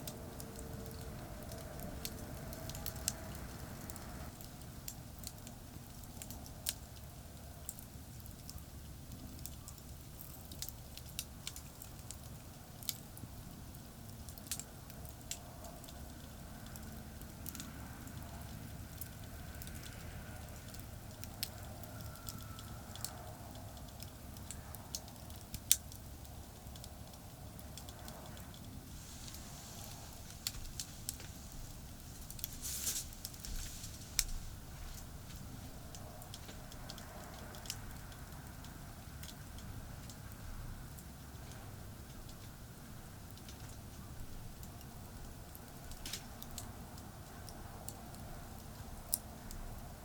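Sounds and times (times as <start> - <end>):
campfire crackling and popping: 0.0 - 50.0
traffic rumble: 0.0 - 50.0.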